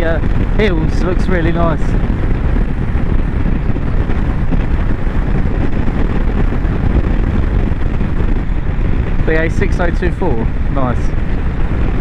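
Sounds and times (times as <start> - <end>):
motorcycle running: 0.0 - 12.0
wind buffeting microphone: 0.0 - 12.0.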